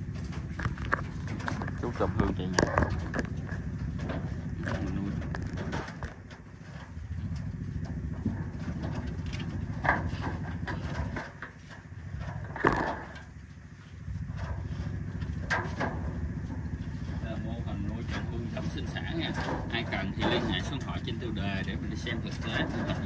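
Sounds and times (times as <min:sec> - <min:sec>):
knocks and rattles of cages: 0:00.0 - 0:23.0
low machine hum: 0:00.0 - 0:23.0.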